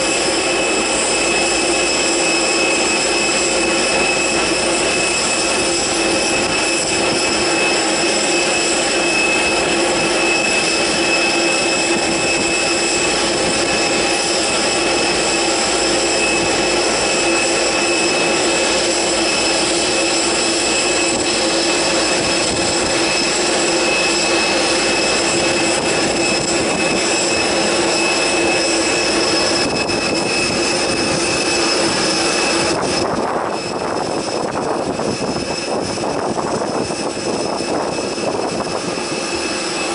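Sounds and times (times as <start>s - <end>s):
jet engines roaring and whining: 0.0s - 39.9s.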